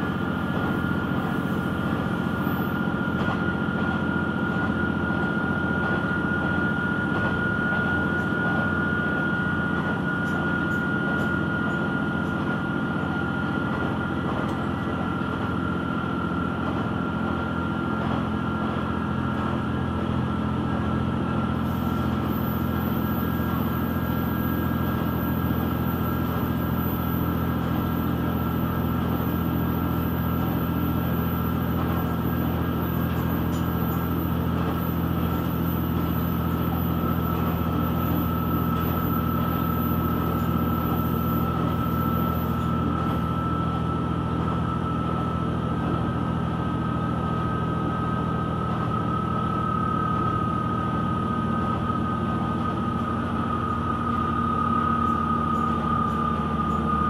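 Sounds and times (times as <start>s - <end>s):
diesel engine drone: 0.0s - 57.0s
high whine sinking in pitch: 0.0s - 57.0s
train running noise: 0.0s - 57.0s.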